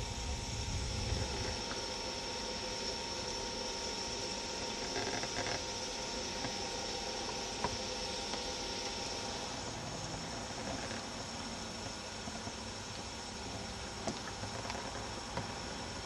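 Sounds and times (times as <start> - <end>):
low hum: 0.0 - 16.0
steady hiss: 0.0 - 16.0.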